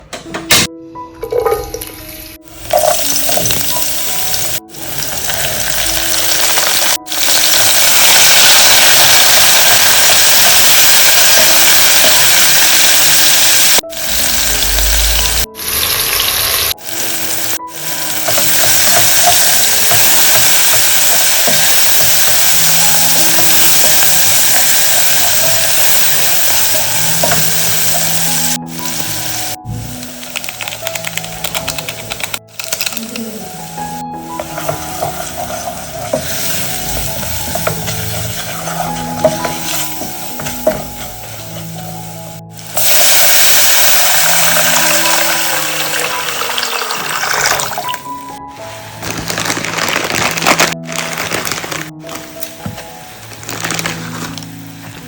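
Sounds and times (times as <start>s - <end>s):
quiet background music: 0.0s - 55.0s
food sizzling in hot oil: 1.7s - 31.5s, 32.1s - 54.7s.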